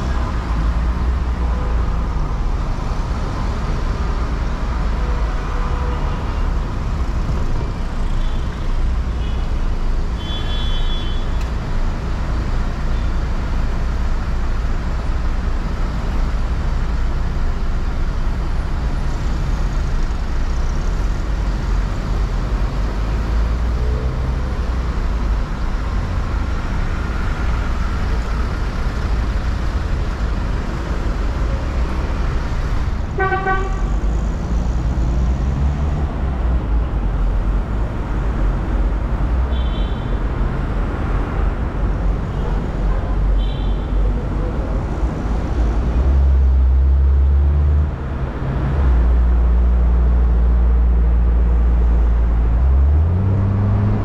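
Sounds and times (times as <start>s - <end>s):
low rumble of street traffic: 0.0s - 54.0s.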